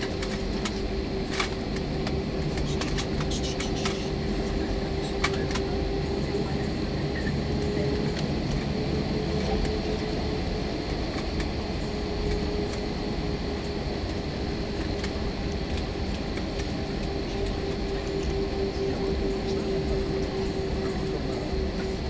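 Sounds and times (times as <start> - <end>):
jet engines humming: 0.0 - 22.0.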